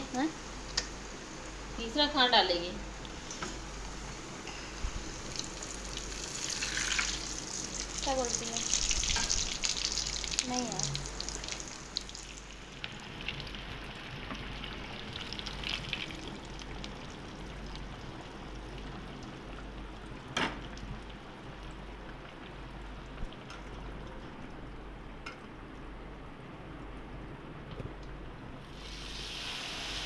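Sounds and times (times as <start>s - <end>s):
food deep-frying in oil: 0.0s - 24.8s, 28.6s - 30.0s.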